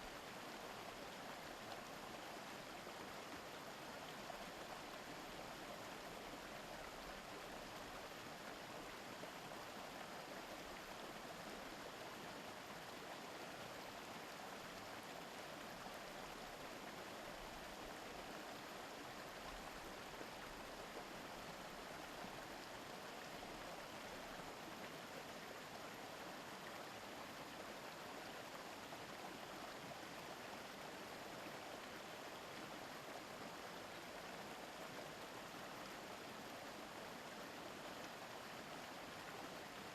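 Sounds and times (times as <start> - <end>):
small river babbling: 0.0 - 39.9.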